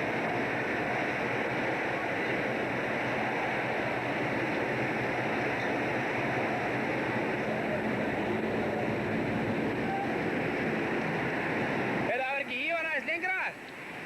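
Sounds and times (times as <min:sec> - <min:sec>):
faint low engine hum: 0:00.0 - 0:14.0
water rushing past boat: 0:00.0 - 0:14.0.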